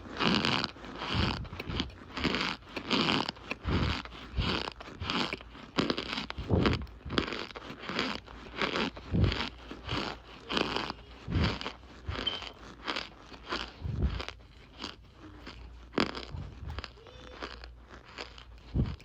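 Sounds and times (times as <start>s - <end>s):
squeaky crunches of cornstarch: 0.0s - 19.0s.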